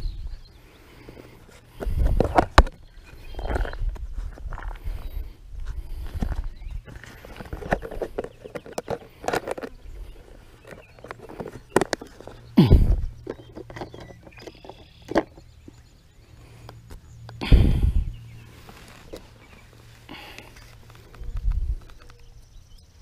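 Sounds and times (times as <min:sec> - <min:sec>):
handling rustles and clicks: 0:01.0 - 0:17.4, 0:18.3 - 0:23.0.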